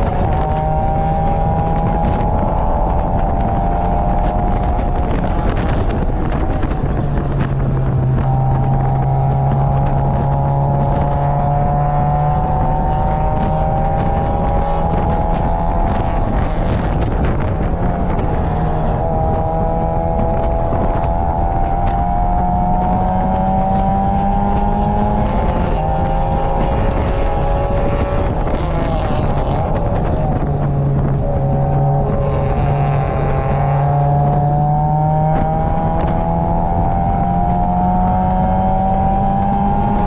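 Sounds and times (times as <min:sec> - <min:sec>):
car engine at race pace: 0:00.0 - 0:40.0
wind rush: 0:00.0 - 0:40.0.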